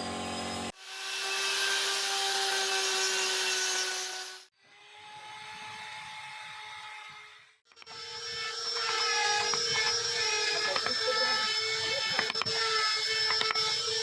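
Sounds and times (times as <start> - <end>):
power tool carving wood: 0.0 - 14.0.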